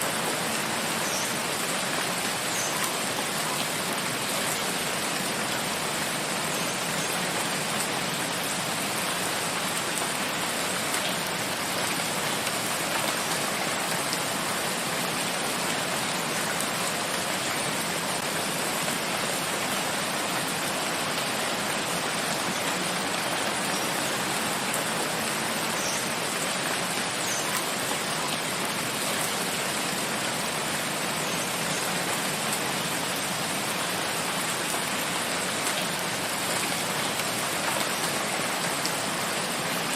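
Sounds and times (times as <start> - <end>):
rain hissing in forest: 0.0 - 39.9.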